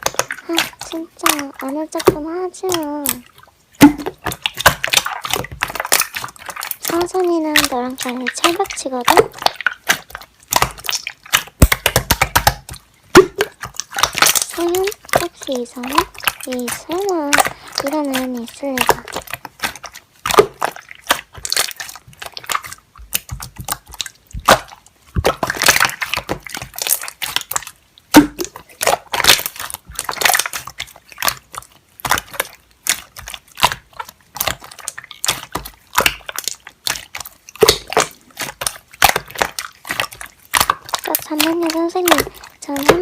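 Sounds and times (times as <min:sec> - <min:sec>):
slime squished by hand: 0:00.0 - 0:43.0.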